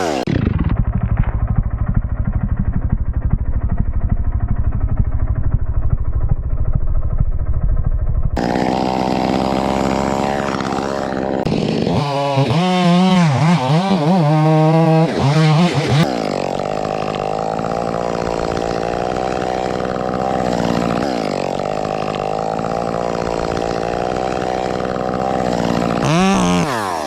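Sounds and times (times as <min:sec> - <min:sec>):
chainsaw revving: 0:00.0 - 0:06.2, 0:08.4 - 0:27.0
chainsaw engine running: 0:00.0 - 0:27.0.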